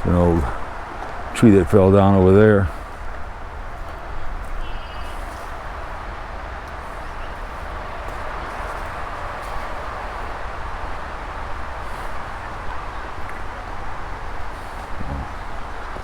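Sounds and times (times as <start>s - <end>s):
steady outdoor hiss: 0.0s - 16.0s
wind buffeting microphone: 0.0s - 16.0s.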